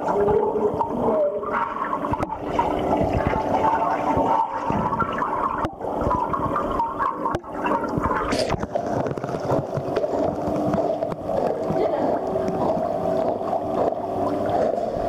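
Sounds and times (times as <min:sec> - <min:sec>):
muffled underwater churning water: 0:00.0 - 0:15.0.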